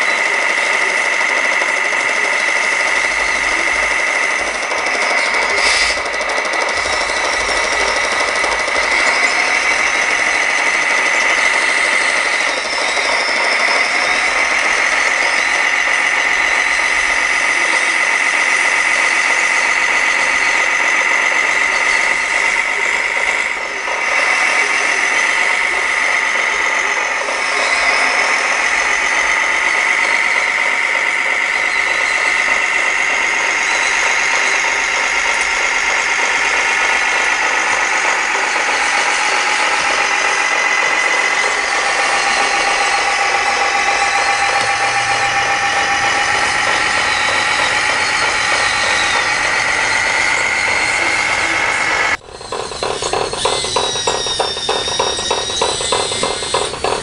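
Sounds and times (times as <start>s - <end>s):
toy truck motor whining: 0.0s - 57.0s.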